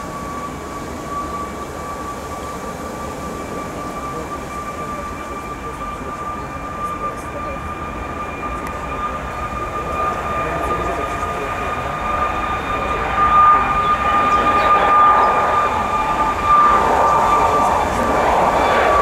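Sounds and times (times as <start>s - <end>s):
jet engines whining on runway: 0.0s - 19.0s.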